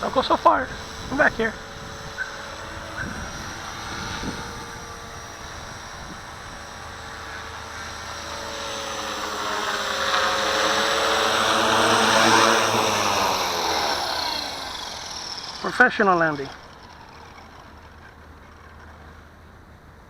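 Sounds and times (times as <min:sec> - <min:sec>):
rc helicopter rotor and motor whine: 0:00.0 - 0:20.0.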